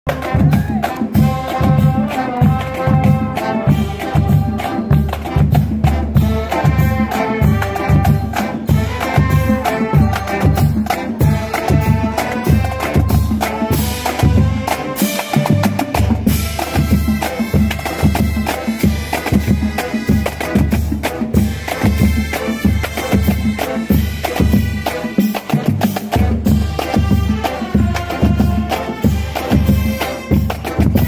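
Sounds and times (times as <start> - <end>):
bass drums: 0.1 - 31.0
brass melody: 0.1 - 31.0
snare drums: 0.1 - 31.0.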